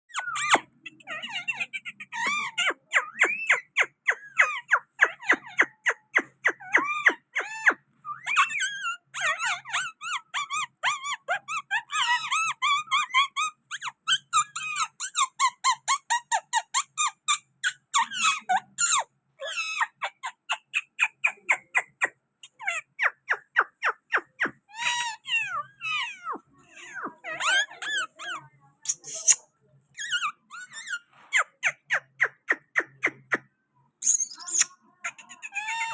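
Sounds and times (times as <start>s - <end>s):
parrot chirping: 0.1s - 35.9s.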